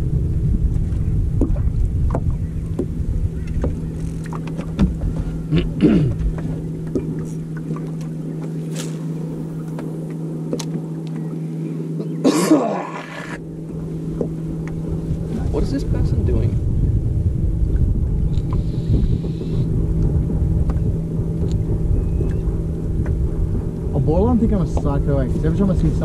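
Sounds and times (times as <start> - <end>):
wind rumbling on microphone: 0.0 - 12.2, 12.9 - 26.0
electric trolling motor humming: 0.0 - 26.0.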